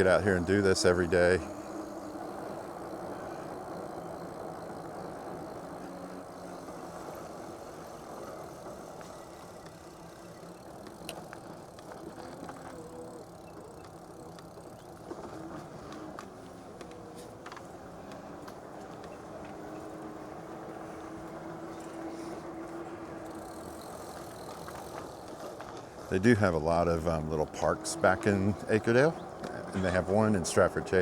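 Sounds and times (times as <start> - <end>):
bicycle road noise: 0.0 - 31.0.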